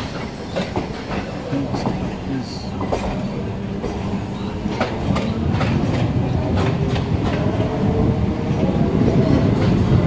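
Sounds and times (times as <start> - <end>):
train rumble: 0.0 - 10.0.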